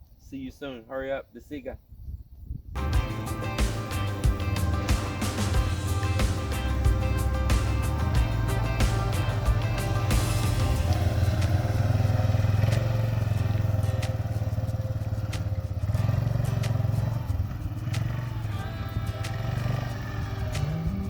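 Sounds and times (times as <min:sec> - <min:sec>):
atv engine running: 0:02.8 - 0:21.0.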